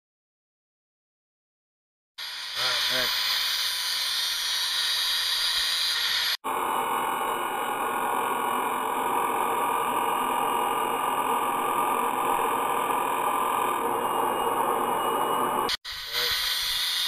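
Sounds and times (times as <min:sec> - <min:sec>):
grinding wheel grinding steel: 0:02.2 - 0:17.0.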